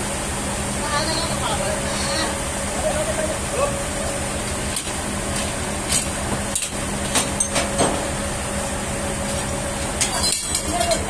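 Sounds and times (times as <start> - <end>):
sawmill machinery hum: 0.0 - 10.7.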